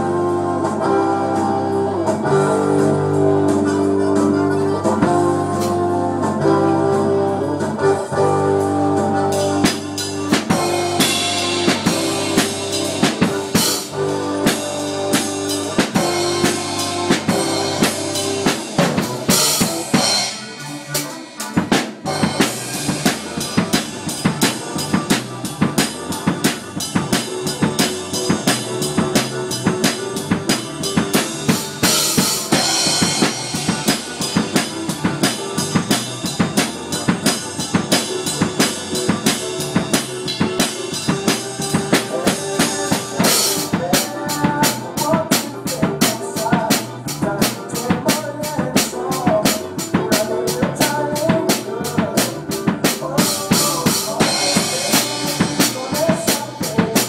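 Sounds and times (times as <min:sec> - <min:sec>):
acoustic drum kit played hard: 0:00.0 - 0:57.0
recorded guitar music: 0:00.0 - 0:57.0.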